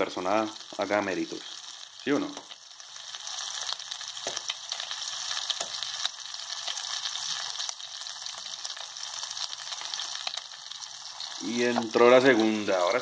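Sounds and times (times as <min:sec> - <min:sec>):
french toast sizzling in pan: 0:00.0 - 0:13.0.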